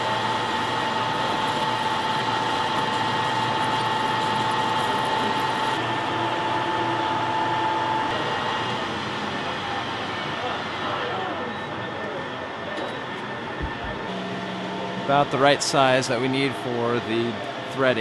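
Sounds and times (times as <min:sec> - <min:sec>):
metal lathe whirring: 0:00.0 - 0:18.0.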